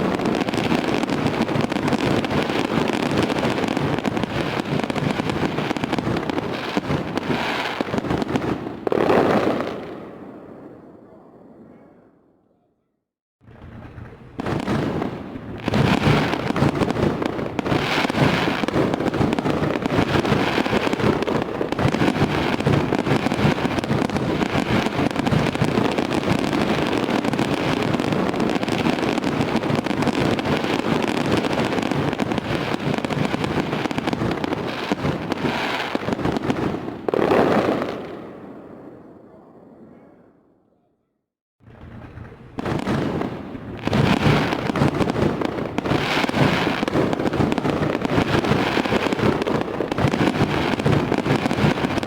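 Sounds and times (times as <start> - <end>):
fireworks bangs and crackling: 0.0 - 11.8, 13.4 - 39.9, 41.6 - 52.0.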